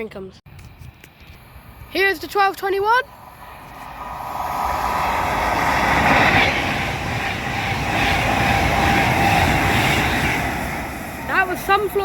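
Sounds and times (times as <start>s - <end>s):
train wheels rumbling on track: 0.5s - 12.0s.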